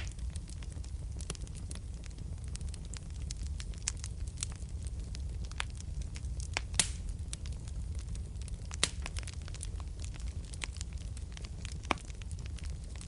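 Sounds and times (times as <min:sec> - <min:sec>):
loud fire pops: 0:00.0 - 0:13.0
wood fire crackling: 0:00.0 - 0:13.0.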